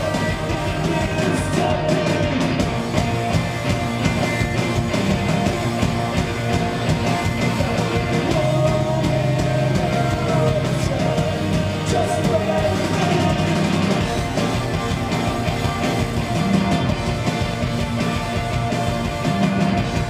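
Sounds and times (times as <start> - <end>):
bass guitar: 0.0 - 20.0
distorted electric guitars: 0.0 - 20.0
drums: 0.0 - 20.0.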